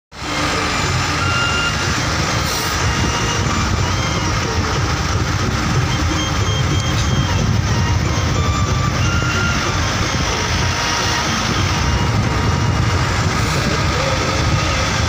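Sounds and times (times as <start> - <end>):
motorcycle engine and road noise: 0.1 - 15.0.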